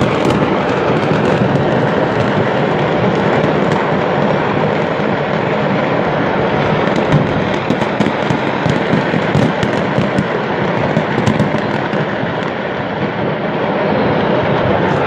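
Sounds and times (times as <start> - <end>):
fireworks popping and cracking: 0.0 - 15.0
steady rumble: 0.0 - 15.0.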